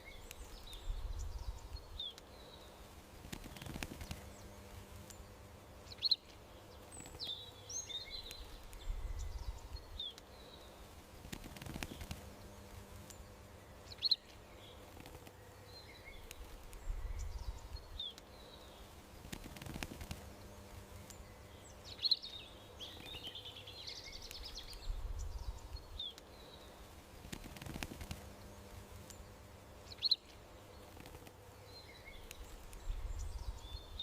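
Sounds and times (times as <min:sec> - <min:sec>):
small songbirds chirping: 0:00.0 - 0:34.0
faint low rumble: 0:00.1 - 0:26.1, 0:26.7 - 0:34.0.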